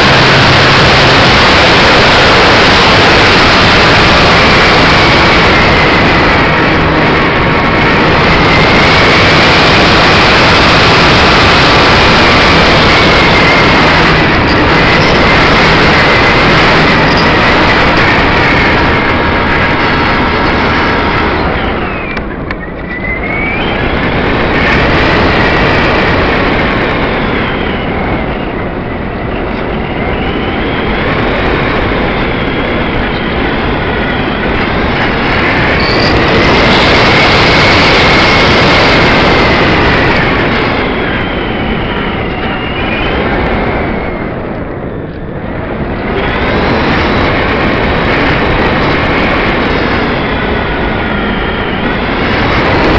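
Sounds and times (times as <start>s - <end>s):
electric motor whine: 0.0s - 44.6s
propeller noise: 0.0s - 52.9s
rushing wind: 0.0s - 52.9s.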